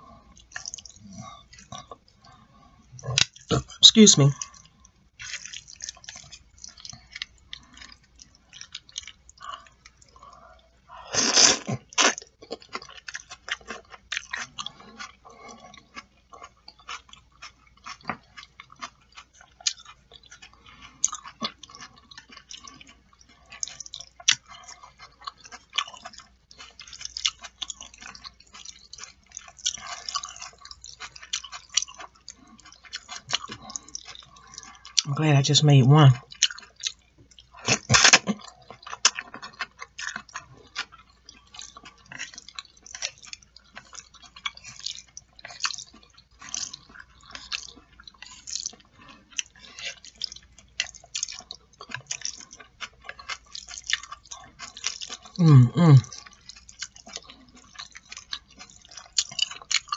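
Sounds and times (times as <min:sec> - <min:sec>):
wet chewing and mouth sounds: 0:00.0 - 0:59.9.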